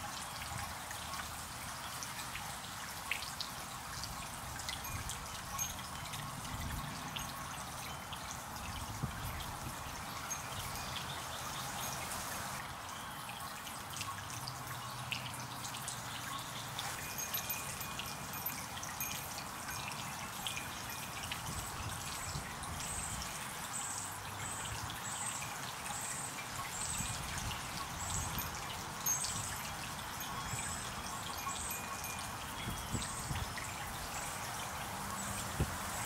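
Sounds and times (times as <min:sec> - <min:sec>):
garden fountain splashing: 0:00.0 - 0:36.0.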